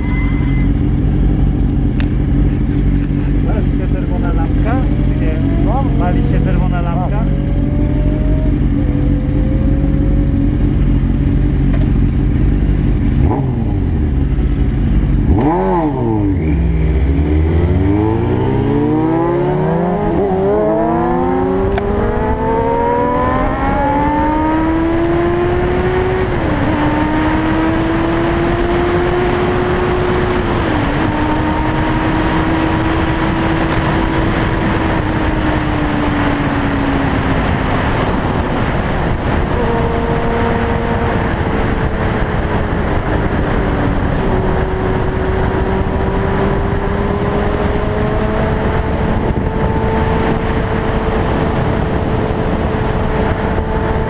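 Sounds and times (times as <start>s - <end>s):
wind noise on microphone: 0.0s - 3.6s, 4.2s - 54.0s
motorcycle engine revving: 0.0s - 54.0s.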